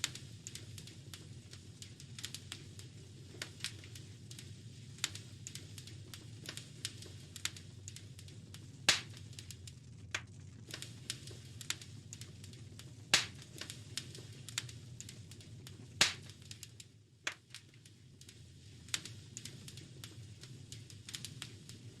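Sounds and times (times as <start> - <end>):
loud pops from fire: 0.0 - 22.0
low rumble of flame: 0.0 - 22.0
wood fire crackling: 0.0 - 22.0.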